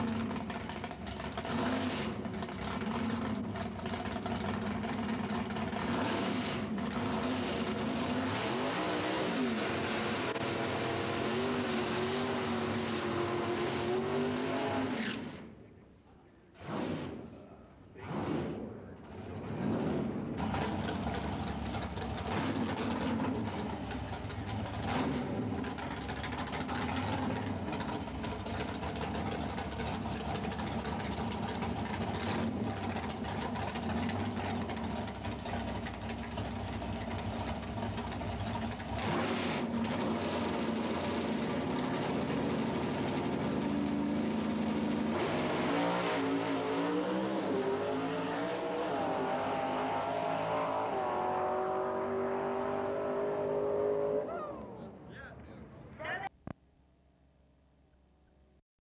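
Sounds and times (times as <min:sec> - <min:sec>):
drag car engine idling and revving: 0:00.0 - 0:56.0.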